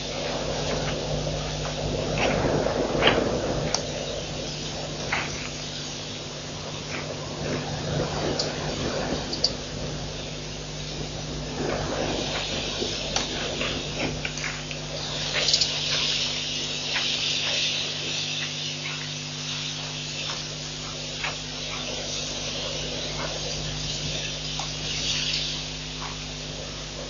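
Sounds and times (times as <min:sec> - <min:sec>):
high hissing buzz: 0:00.0 - 0:27.0
steady low hum: 0:00.0 - 0:27.0.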